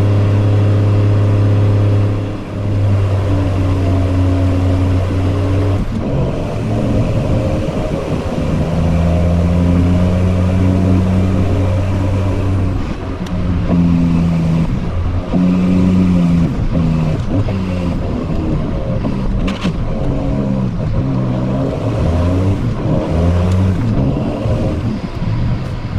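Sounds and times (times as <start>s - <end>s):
heavy diesel engine running: 0.0s - 25.9s.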